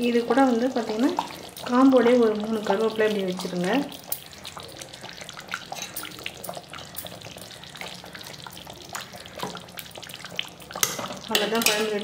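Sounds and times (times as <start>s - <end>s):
curry bubbling in a pan: 0.0s - 12.0s.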